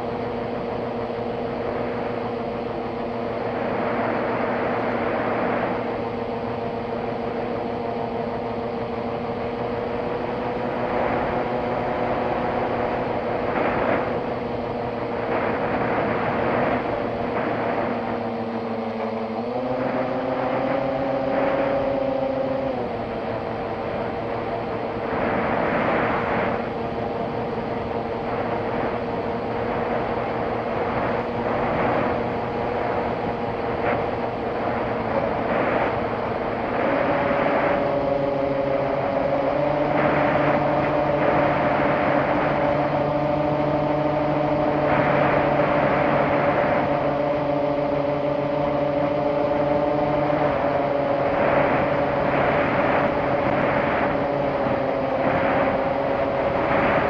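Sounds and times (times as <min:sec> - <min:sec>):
propeller motor droning: 0:00.0 - 0:57.0
wind rushing: 0:10.7 - 0:57.0.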